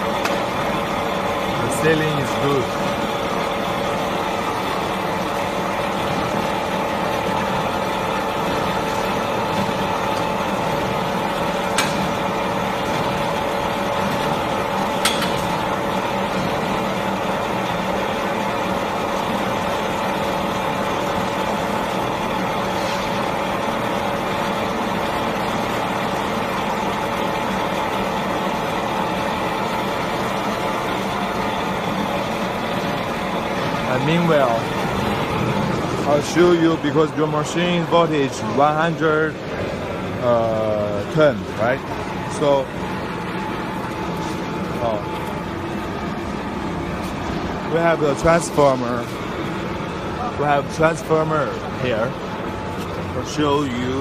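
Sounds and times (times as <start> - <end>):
constant whine: 0.0 - 54.0
machinery humming: 0.0 - 54.0.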